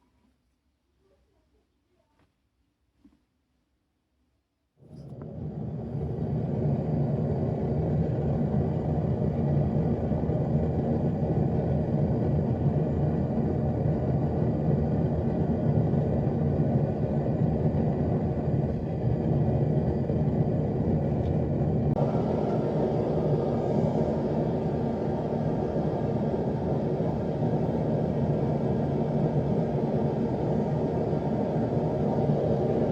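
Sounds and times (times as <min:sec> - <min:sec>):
forge roaring: 0:05.0 - 0:32.9.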